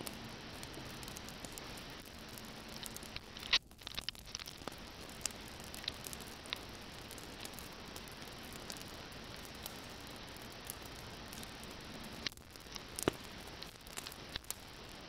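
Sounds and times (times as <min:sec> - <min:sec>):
faint hiss: 0:00.0 - 0:15.0
small clicks: 0:00.0 - 0:15.0.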